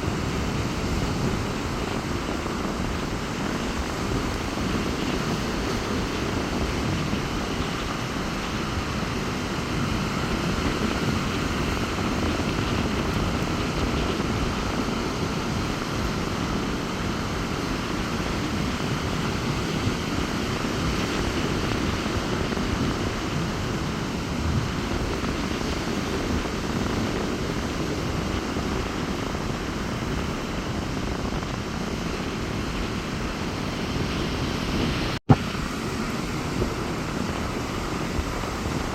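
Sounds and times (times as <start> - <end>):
waves breaking on beach: 0.0 - 38.9
wind: 0.0 - 38.9.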